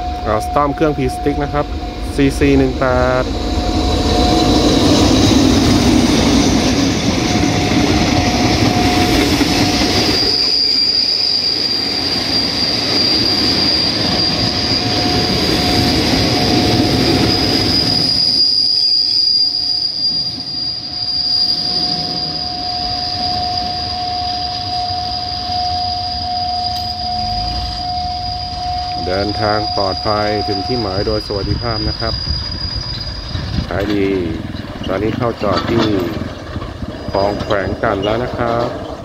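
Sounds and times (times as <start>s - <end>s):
high squeal from train running gear: 0.0s - 39.0s
locomotive engine rumbling: 0.0s - 39.0s.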